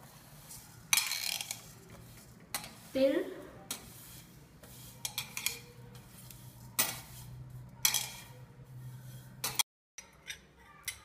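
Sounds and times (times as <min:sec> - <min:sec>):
spatula scraping a pan: 0:00.0 - 0:09.6.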